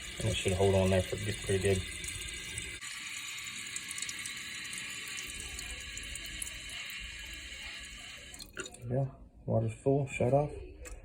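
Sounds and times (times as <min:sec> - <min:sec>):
toilet tank refilling with water: 0:00.0 - 0:08.8.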